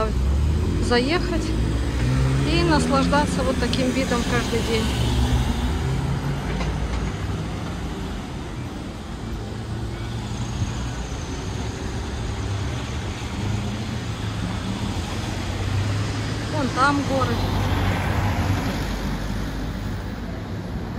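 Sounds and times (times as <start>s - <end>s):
hum of road traffic: 0.0s - 20.9s.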